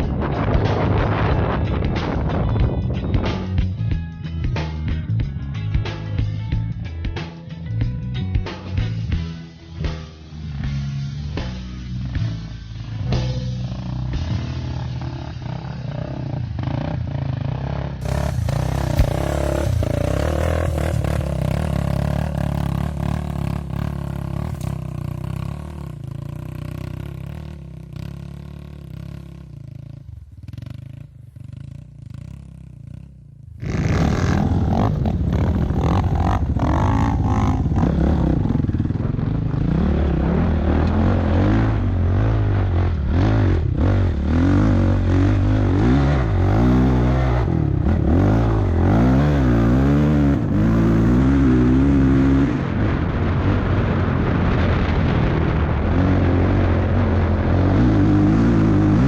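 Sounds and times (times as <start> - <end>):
motorcycle engine revving: 10.6 - 59.0.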